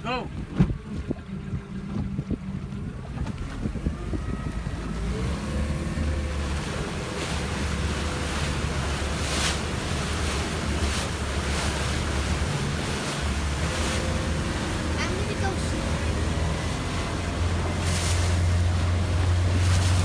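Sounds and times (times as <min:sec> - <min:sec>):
wind and water rush: 0:00.0 - 0:20.0
motorboat engine throttling up: 0:00.3 - 0:20.0.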